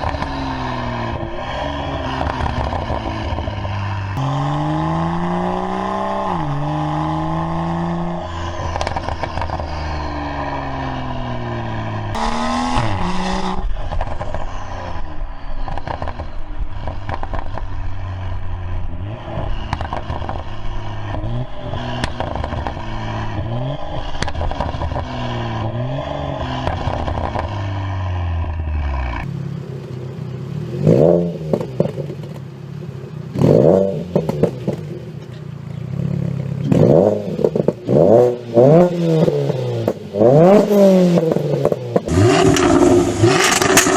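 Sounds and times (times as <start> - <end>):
exhaust crackling and popping: 0.0 - 4.3, 8.4 - 10.2, 12.0 - 35.7, 36.4 - 43.9
car engines revving: 0.0 - 43.9.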